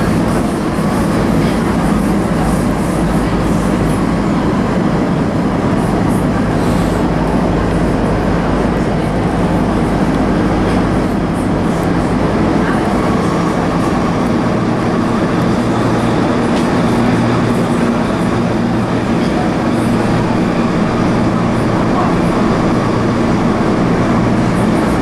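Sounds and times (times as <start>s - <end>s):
train rumbling through tunnel: 0.0s - 25.0s.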